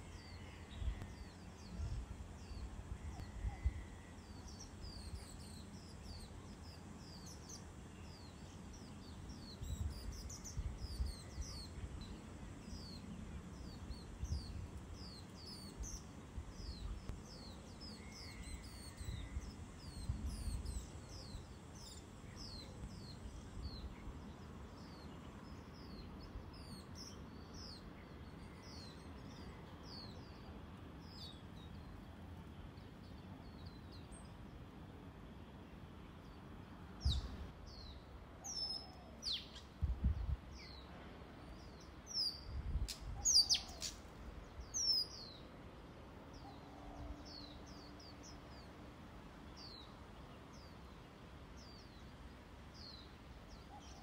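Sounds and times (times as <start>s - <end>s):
small birds chirping: 0.0s - 45.6s, 46.2s - 54.0s.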